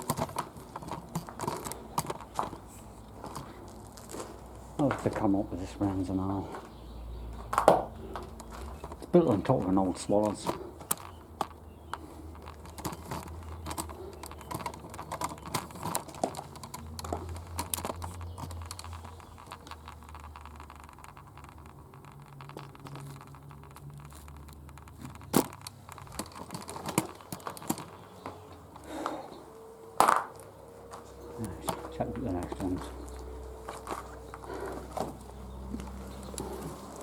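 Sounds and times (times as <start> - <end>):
twigs and leaves crackling: 0.0 - 37.0.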